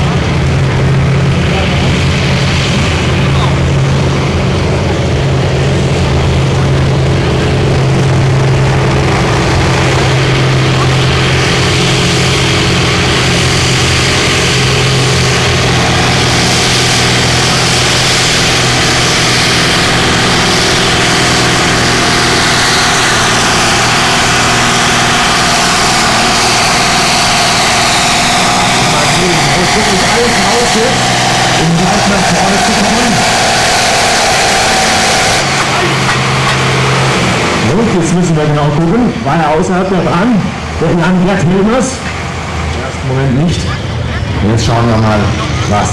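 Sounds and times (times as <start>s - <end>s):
diesel engine running under load: 0.0s - 45.9s
high whine: 0.0s - 45.9s.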